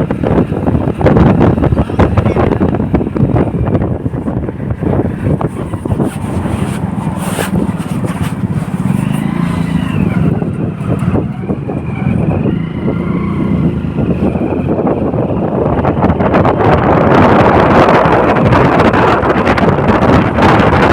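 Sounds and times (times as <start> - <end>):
motorcycle engine running: 0.0 - 20.9
wind buffeting microphone: 0.0 - 20.9.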